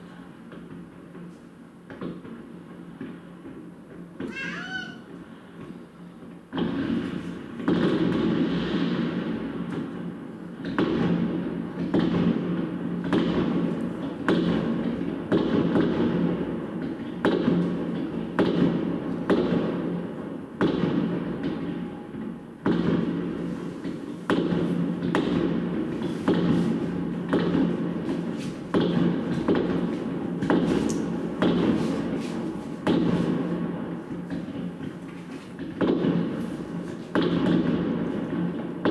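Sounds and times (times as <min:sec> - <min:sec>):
fireworks banging and rumbling: 0:00.0 - 0:38.9.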